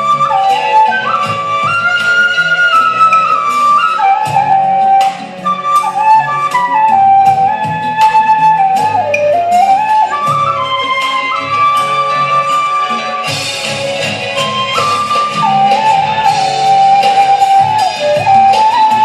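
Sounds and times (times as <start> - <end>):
backing track with steady beat: 0.0 - 19.0
bamboo flute slow melody: 0.0 - 19.0.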